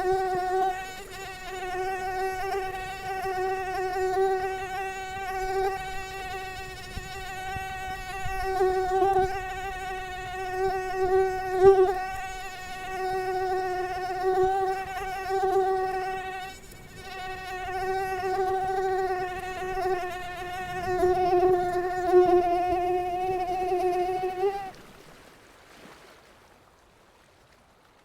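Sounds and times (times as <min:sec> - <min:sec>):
mosquito wing whine: 0:00.0 - 0:24.8.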